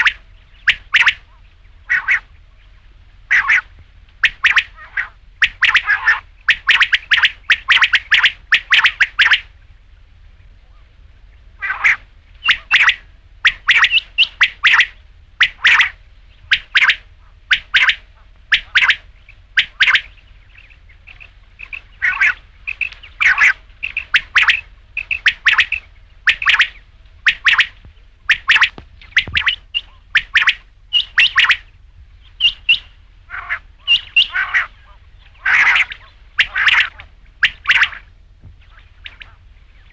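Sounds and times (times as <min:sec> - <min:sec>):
quail whistled calls: 0:00.0 - 0:09.7, 0:10.7 - 0:39.9.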